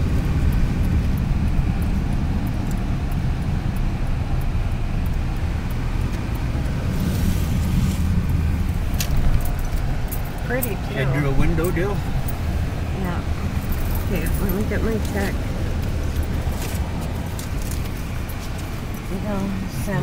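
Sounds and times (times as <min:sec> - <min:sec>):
car cabin engine and tyre rumble: 0:00.0 - 0:20.0.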